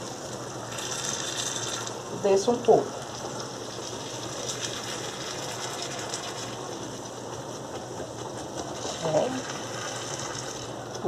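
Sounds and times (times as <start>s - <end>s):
sauce sizzling in a frying pan: 0.0s - 7.6s, 8.4s - 11.0s.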